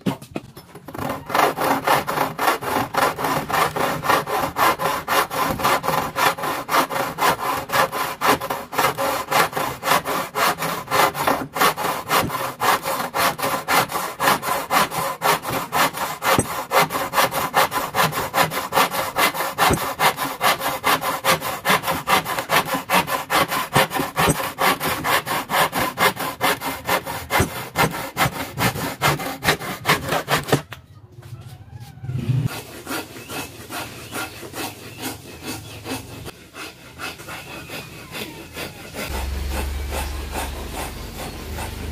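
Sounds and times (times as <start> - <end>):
hand saw cutting wood: 0.0 - 30.7, 32.4 - 41.9
scraping and rubbing: 0.0 - 30.7, 31.3 - 41.9.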